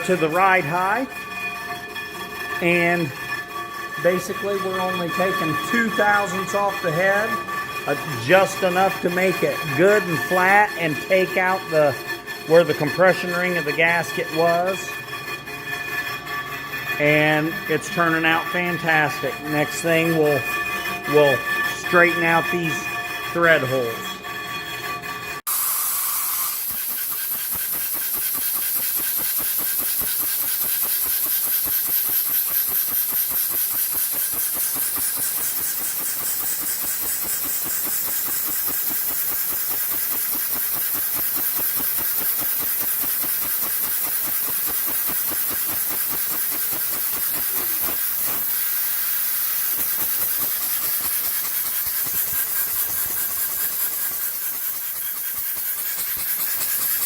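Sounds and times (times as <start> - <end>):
machine tool cutting metal: 0.0 - 57.0.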